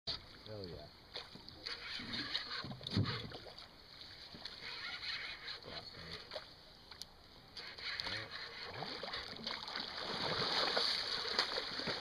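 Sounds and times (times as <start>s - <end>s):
water sloshing around boat: 0.1s - 12.0s.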